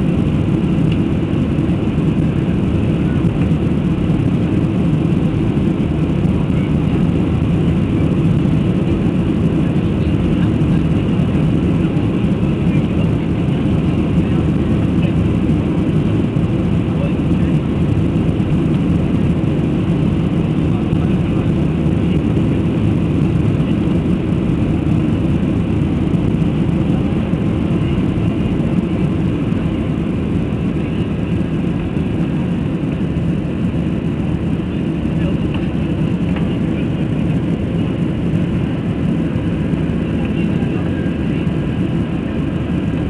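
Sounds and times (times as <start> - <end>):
aeroplane engine drone: 0.0 - 43.0.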